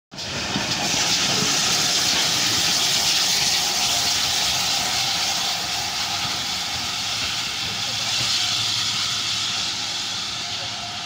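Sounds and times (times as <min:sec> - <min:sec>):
steam hissing from locomotive: 0:00.1 - 0:11.0.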